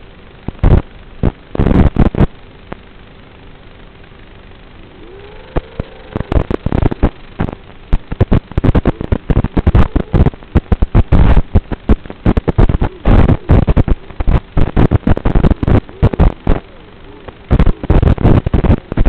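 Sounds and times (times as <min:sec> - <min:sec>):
crackling radio static: 0:00.0 - 0:19.0.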